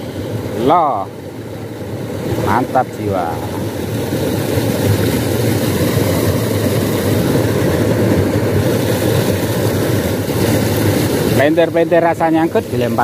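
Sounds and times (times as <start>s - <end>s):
water rushing in stream: 0.0s - 13.0s.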